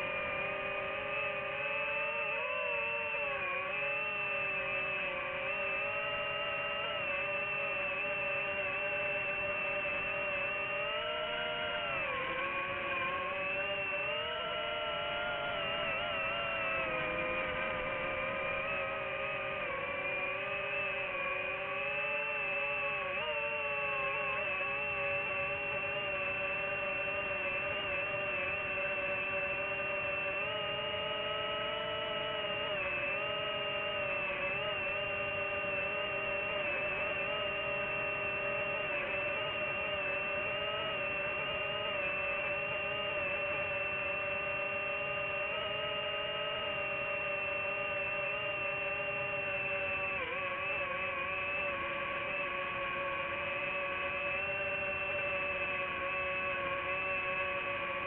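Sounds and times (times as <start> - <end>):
drone propellers whirring: 0.0 - 58.0.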